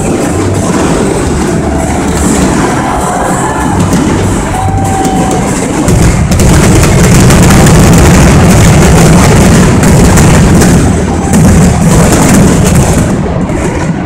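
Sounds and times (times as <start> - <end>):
firework whistle: 0.0 - 8.1, 9.1 - 13.2
fireworks barrage rumble: 0.0 - 14.0.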